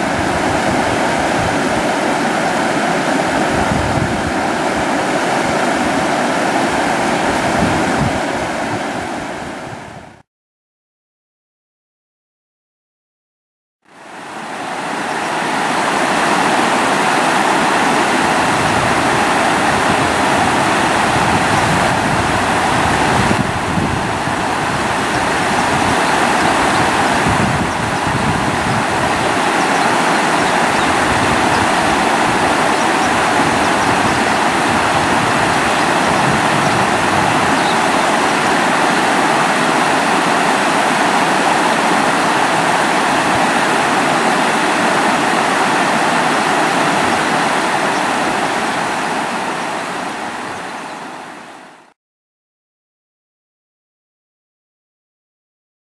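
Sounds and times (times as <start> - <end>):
water rushing over rocks: 0.0 - 9.6, 13.9 - 51.9.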